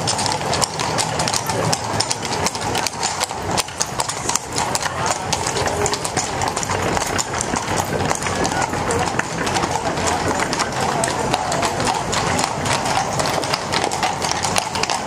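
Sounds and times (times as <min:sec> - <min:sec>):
carriage wheels rumbling: 0:00.0 - 0:15.0
horse hooves on stone paving: 0:00.0 - 0:15.0.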